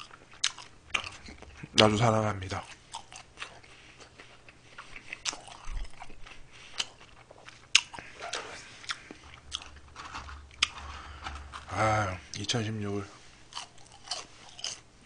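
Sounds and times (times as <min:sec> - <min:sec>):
person chewing food: 0:00.0 - 0:12.5, 0:13.3 - 0:14.9.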